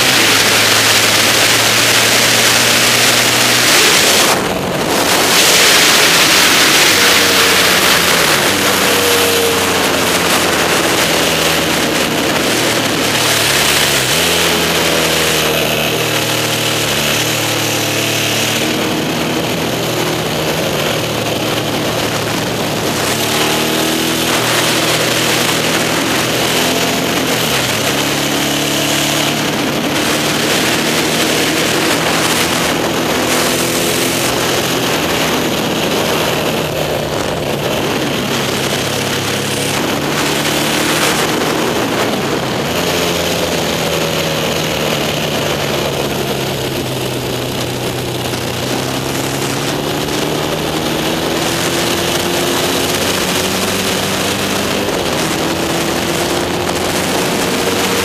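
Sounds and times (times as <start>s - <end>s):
racing engine shifting gears: 0.0s - 58.0s
wind and road rush: 0.0s - 58.0s.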